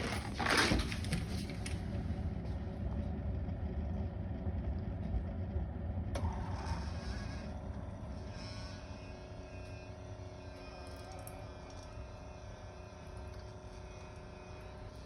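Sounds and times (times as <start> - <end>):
coffee maker humming: 0.0 - 15.0.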